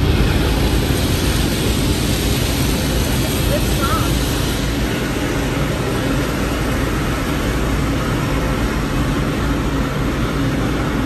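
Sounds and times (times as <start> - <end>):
water spraying on car: 0.0 - 9.0
car wash machinery running: 0.0 - 11.0.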